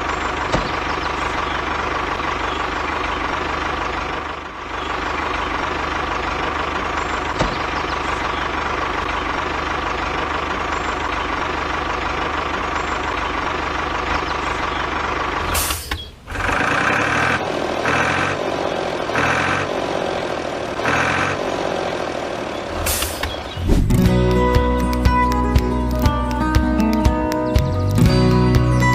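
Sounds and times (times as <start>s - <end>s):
model tractor engine running: 0.0s - 28.9s.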